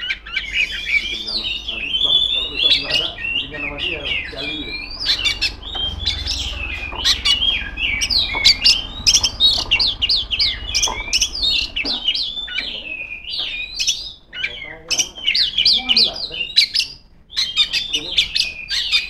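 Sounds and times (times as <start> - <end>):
magpie-robin whistled song: 0.0 - 19.0.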